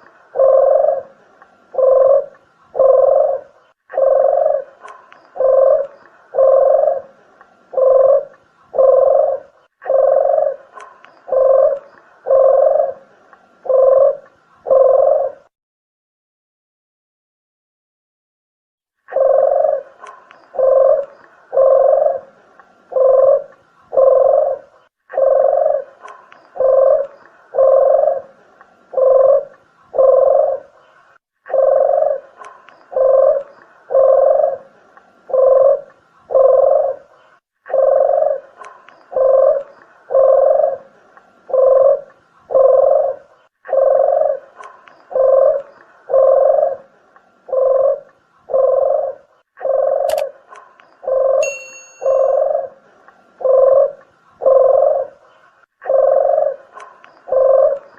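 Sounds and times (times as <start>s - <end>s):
dove cooing: 0.0s - 15.5s, 19.1s - 30.9s, 31.5s - 57.9s.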